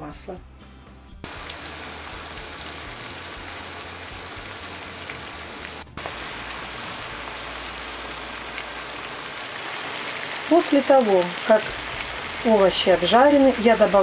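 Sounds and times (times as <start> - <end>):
vegetables sizzling in oil: 1.2 - 14.0.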